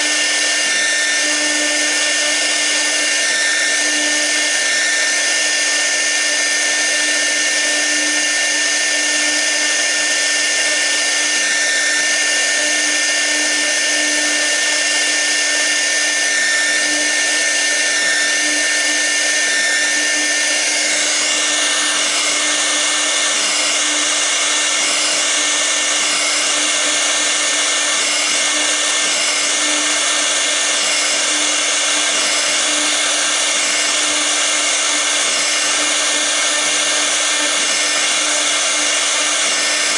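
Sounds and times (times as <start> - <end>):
bit cutting wood: 0.0 - 39.9
router spindle whine: 0.0 - 39.9.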